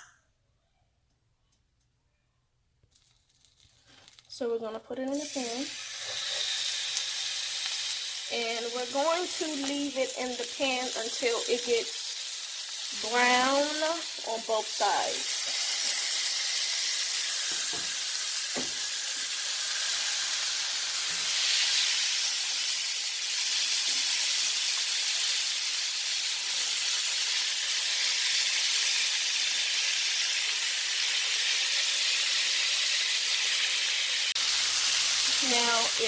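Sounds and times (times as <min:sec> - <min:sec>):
meat sizzling in a frying pan: 0:03.9 - 0:36.0.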